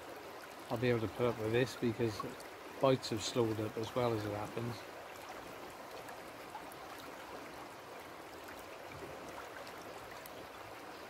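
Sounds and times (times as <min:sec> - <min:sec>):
river water flowing over shallows: 0:00.0 - 0:11.0.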